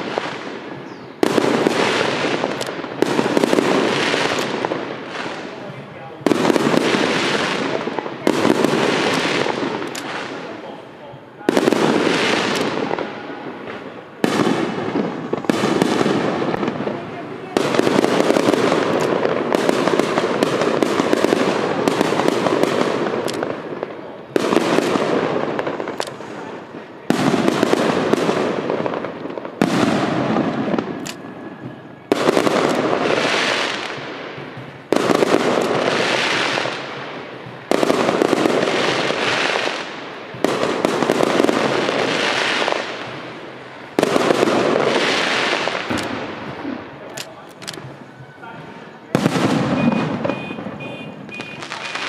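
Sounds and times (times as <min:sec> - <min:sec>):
firework shells bursting: 0:00.0 - 0:10.8, 0:11.5 - 0:48.0
sharp firework cracks: 0:00.0 - 0:48.1, 0:48.7 - 0:52.0.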